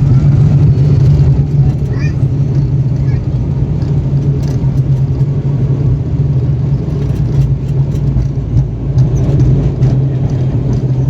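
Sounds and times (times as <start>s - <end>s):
airliner engines droning: 0.0s - 11.0s
constant rushing noise: 0.0s - 11.0s.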